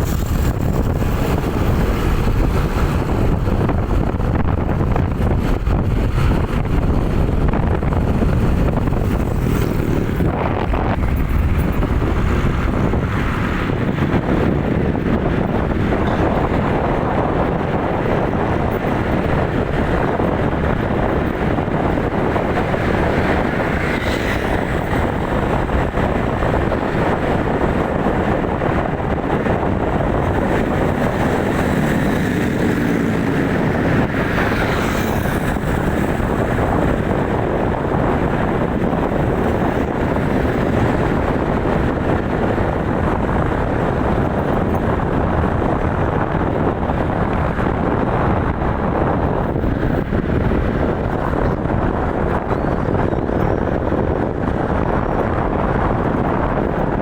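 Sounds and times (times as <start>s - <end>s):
loud engine rumble: 0.0s - 57.0s
wind buffeting microphone: 0.0s - 57.0s.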